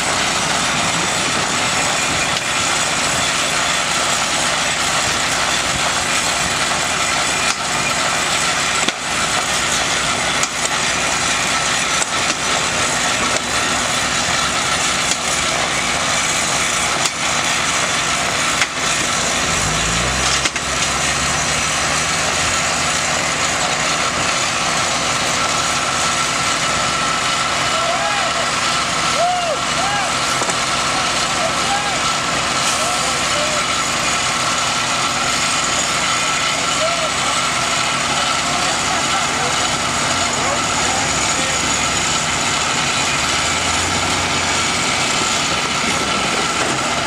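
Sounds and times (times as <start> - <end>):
rail grinder running: 0.0 - 47.0
truck engine idling: 0.0 - 47.0.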